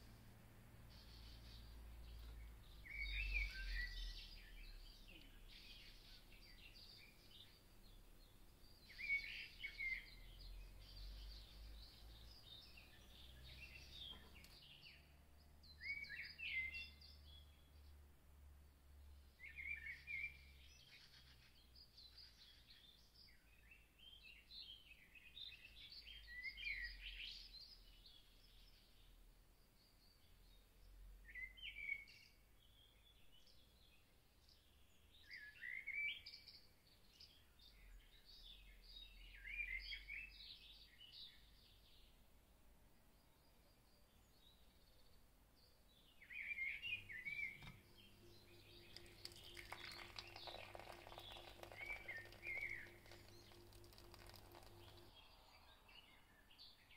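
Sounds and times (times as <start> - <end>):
faint bird chirping: 0.0 - 56.9.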